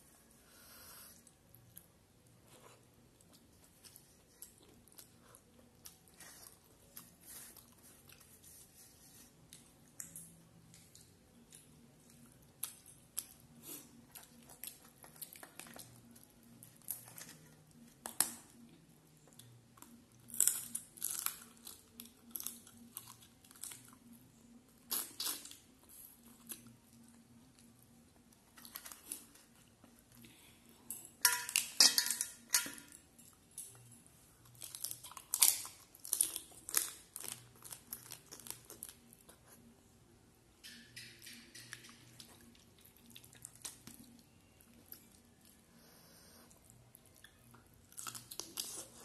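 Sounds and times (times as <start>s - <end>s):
wet chewing and crunching: 1.2s - 39.7s, 40.6s - 45.6s, 46.5s - 49.0s.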